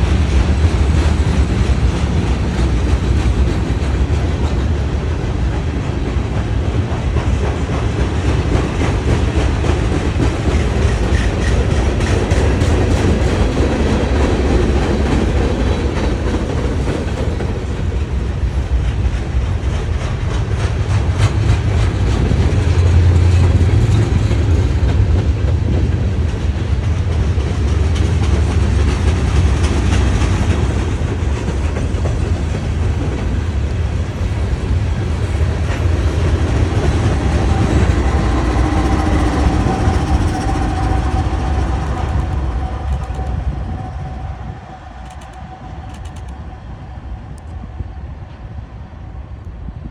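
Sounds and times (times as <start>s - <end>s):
wheels clicking over rail joints: 0.0s - 43.6s
freight train rumbling past: 0.0s - 49.9s.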